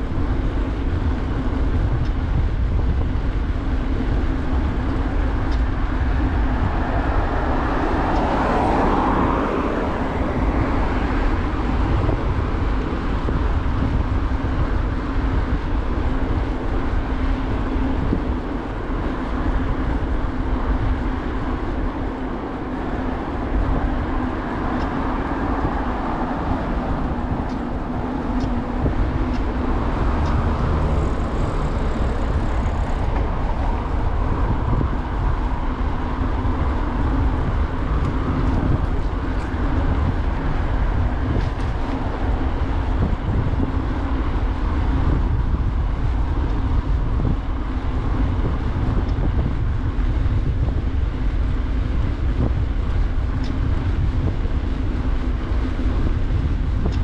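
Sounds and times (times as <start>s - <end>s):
bicycle tyres rolling on asphalt: 0.0s - 57.0s
car traffic: 0.0s - 57.0s
wind rushing over microphone: 0.0s - 57.0s.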